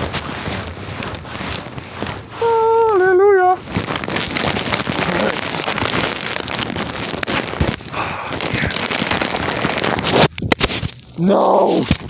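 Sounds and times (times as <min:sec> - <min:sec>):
sleet crackling on microphone: 0:00.0 - 0:12.0.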